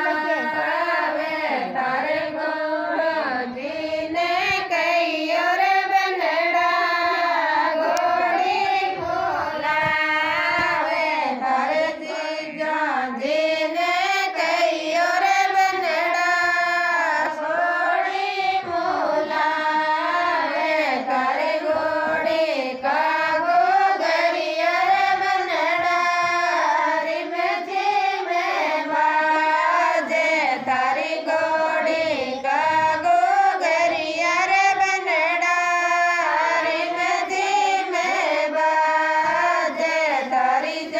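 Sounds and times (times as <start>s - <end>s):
woman singing unaccompanied: 0.0s - 40.9s.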